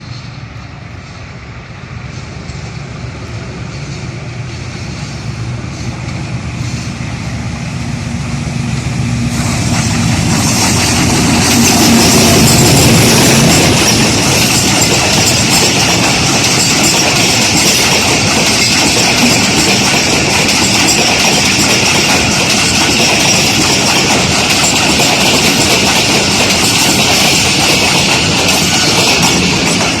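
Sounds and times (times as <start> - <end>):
locomotive engine hum: 0.0 - 30.0
train wheels rushing on rails: 0.0 - 30.0.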